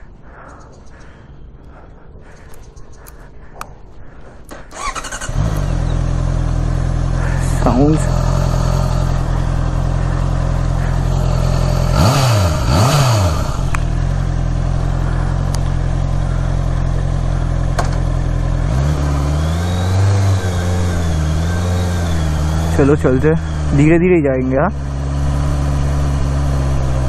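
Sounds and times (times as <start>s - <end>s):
motorcycle engine idling: 4.1s - 27.0s
engine revving: 4.5s - 27.0s.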